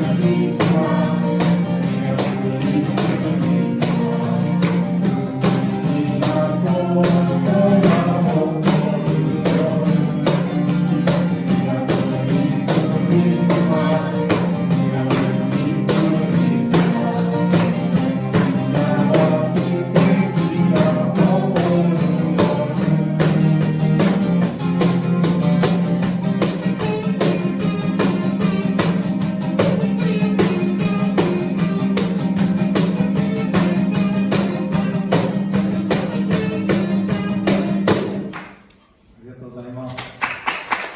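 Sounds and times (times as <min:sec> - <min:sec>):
strummed guitar: 0:00.0 - 0:38.6
percussive beat: 0:00.0 - 0:38.7
live band music: 0:00.0 - 0:39.1.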